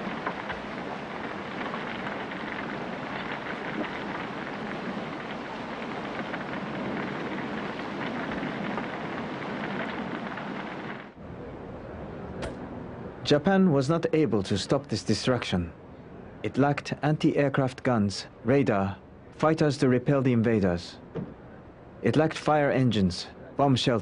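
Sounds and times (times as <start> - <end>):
large fire crackling: 0.0 - 24.0.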